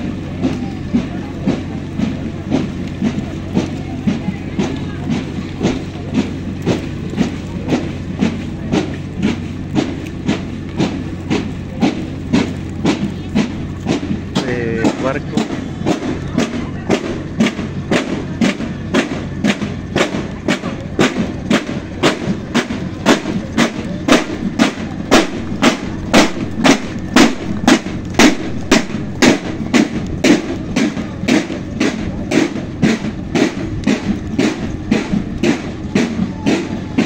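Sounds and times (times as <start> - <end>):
marching snare drums: 0.0 - 37.0.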